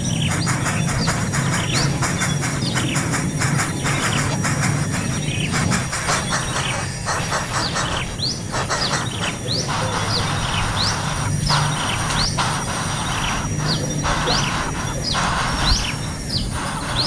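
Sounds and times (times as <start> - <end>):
insect drone: 0.0 - 17.0
small birds chirping: 0.0 - 17.0.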